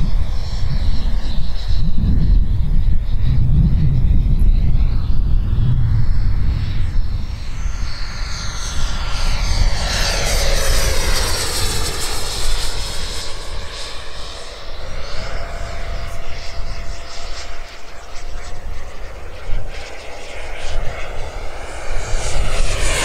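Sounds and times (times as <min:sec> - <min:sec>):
model jet fan whining: 0:00.0 - 0:23.0.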